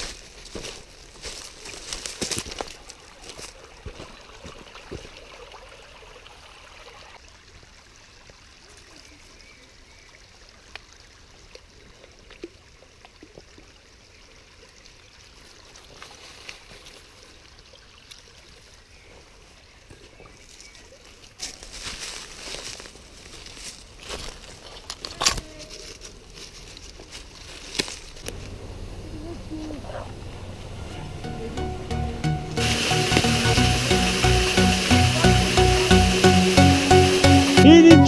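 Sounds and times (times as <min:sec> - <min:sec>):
forest stream trickling: 0:00.0 - 0:38.0.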